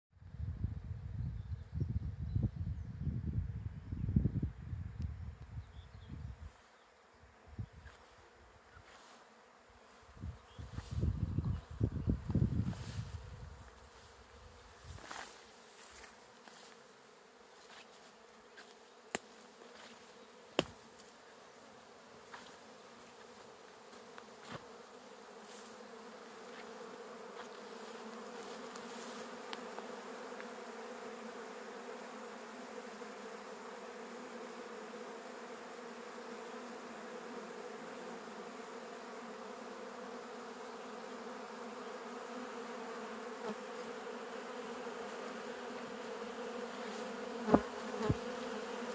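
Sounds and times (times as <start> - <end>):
honeybees buzzing: 5.6 - 48.9.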